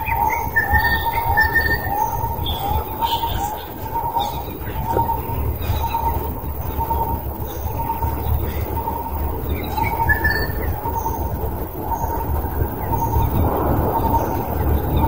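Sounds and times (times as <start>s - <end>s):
birds calling repeated note: 0.0s - 15.0s
steady low rumble: 0.0s - 15.0s.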